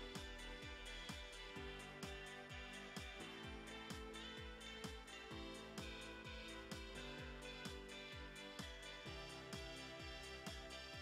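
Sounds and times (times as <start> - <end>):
background music with low drum: 0.0 - 11.0.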